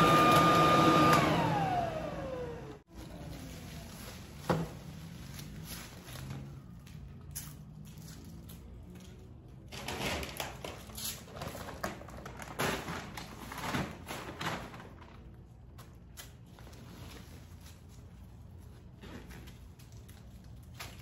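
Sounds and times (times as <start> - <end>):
paper bag rustling and crinkling: 2.8 - 8.9, 9.6 - 21.0.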